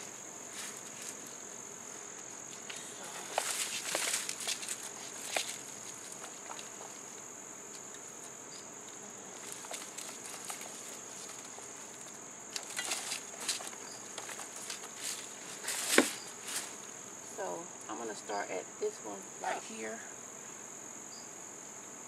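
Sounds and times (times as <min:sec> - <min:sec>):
insect trill: 0:00.0 - 0:22.0.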